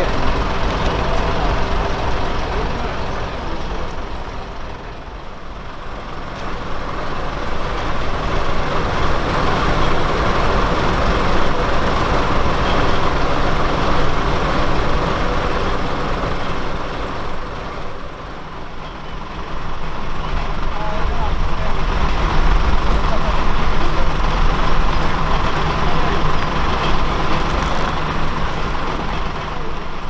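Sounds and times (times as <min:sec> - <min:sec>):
diesel train engines pulling away: 0:00.0 - 0:30.0.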